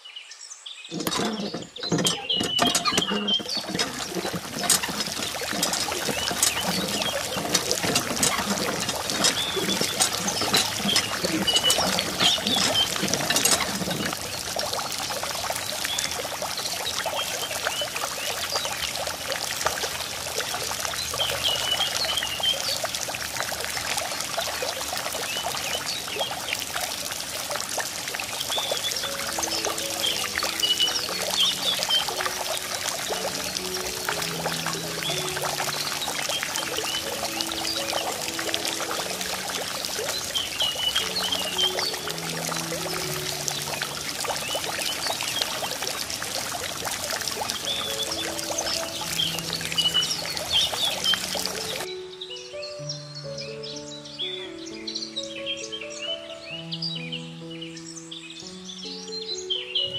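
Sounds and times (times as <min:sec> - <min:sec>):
water pouring and splashing: 0:00.9 - 0:51.9
soft music: 0:00.9 - 0:59.9.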